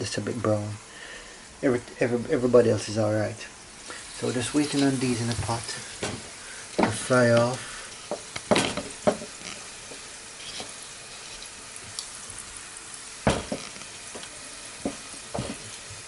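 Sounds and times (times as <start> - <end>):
plantain sizzling in oil: 0.0 - 16.0.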